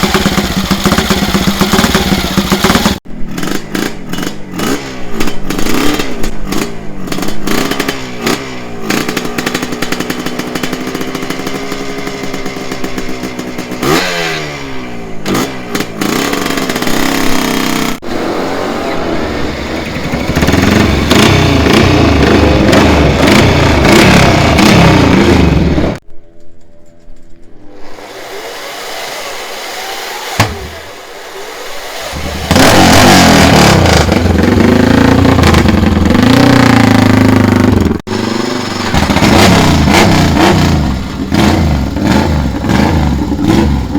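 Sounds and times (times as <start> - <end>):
motorcycle engines revving: 0.0 - 26.0, 27.8 - 43.9.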